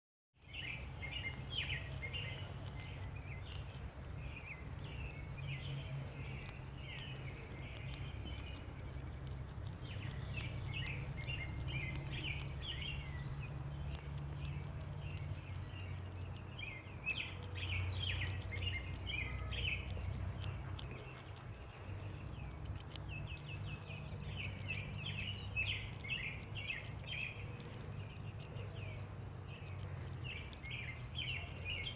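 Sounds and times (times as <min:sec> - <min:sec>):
small birds chirping: 0:00.4 - 0:31.9
steady low rumble: 0:00.4 - 0:31.9.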